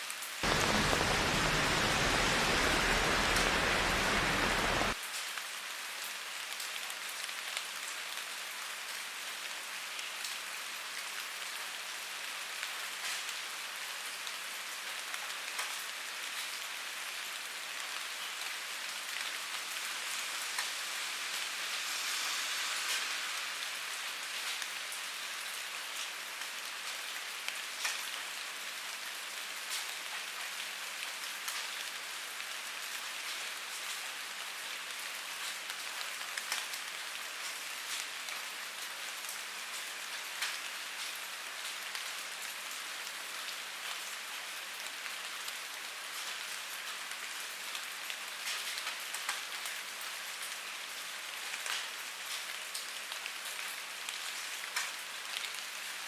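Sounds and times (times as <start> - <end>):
rain hissing on gutter: 0.0 - 56.0.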